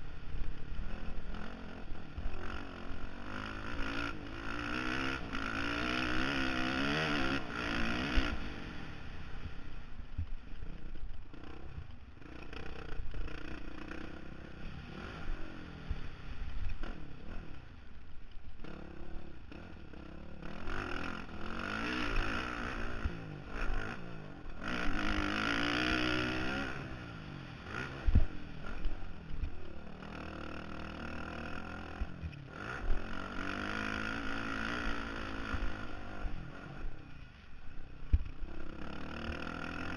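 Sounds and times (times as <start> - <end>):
motocross engine revving: 0.3 - 9.5, 10.6 - 17.8, 18.6 - 39.9.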